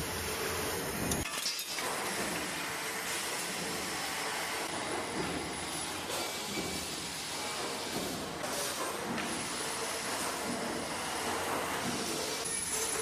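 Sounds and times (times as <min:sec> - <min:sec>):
metalworking machinery hiss and rumble: 0:00.0 - 0:13.0.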